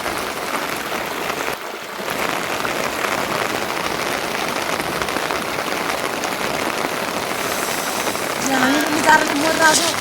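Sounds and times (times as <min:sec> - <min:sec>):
steady rain hissing: 0:00.0 - 0:10.0.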